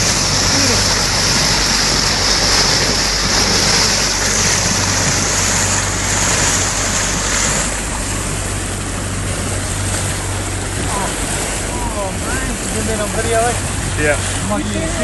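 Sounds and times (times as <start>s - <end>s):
boat engine hum: 0.0s - 15.0s
rushing water: 0.0s - 15.0s.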